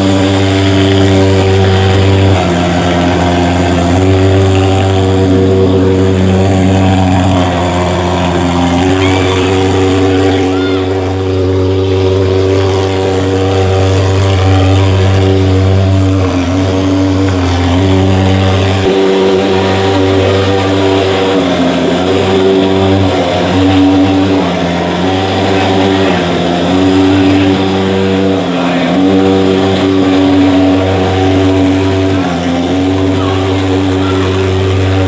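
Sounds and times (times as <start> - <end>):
pulse-jet engine buzzing drone: 0.0 - 35.0.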